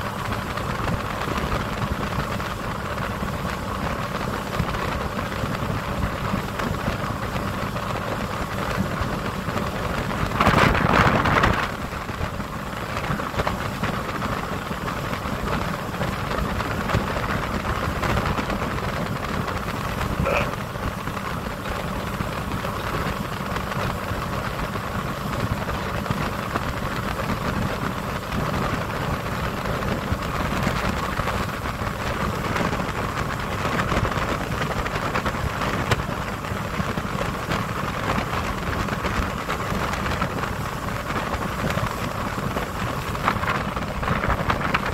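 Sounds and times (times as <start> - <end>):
motorboat engine: 0.0 - 44.9
water rushing past hull: 0.0 - 44.9
wind on microphone: 0.0 - 44.9.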